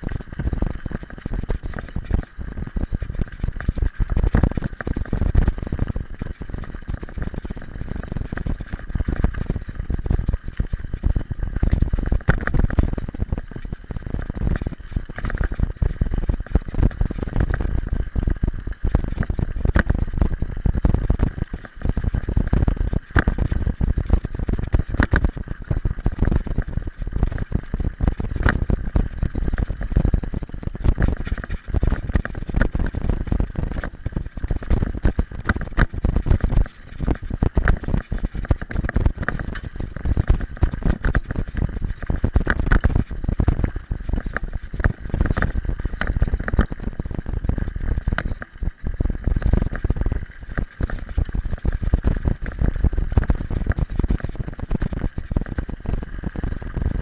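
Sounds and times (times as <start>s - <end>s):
bike rattling and knocking: 0.0s - 57.0s
bike tyres rumbling on gravel: 0.0s - 57.0s
wind on microphone: 0.0s - 57.0s.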